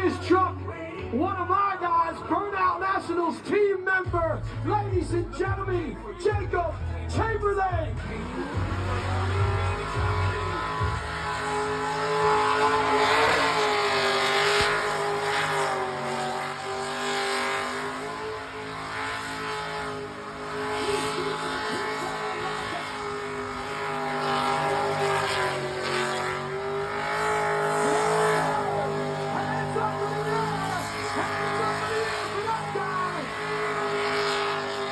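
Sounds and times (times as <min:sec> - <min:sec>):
car engine at high revs: 0:01.0 - 0:34.9.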